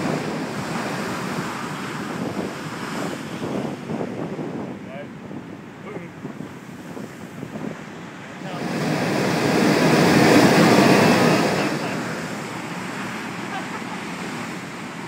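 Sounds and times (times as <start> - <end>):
blowhole rushing whoosh: 0.0 - 15.0
surf washing: 0.0 - 15.0
wind on microphone: 0.0 - 15.0.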